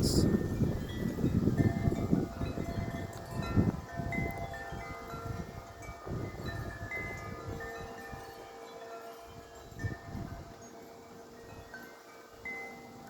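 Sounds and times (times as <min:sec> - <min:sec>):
wind rumble on microphone: 0:00.0 - 0:08.4, 0:09.2 - 0:11.8
wind chimes ringing: 0:00.0 - 0:13.0.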